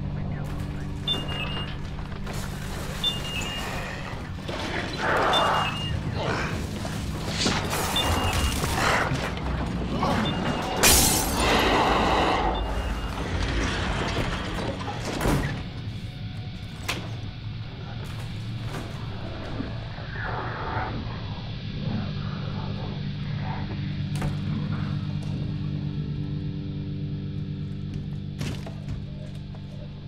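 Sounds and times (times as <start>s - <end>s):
low droning score: 0.0s - 30.0s.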